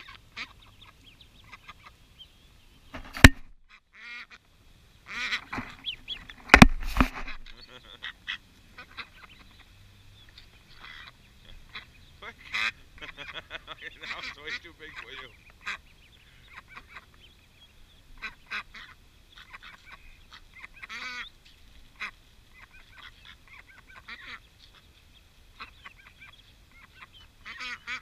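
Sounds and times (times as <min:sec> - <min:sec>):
ducks quacking: 0:00.0 - 0:02.2, 0:03.0 - 0:28.0.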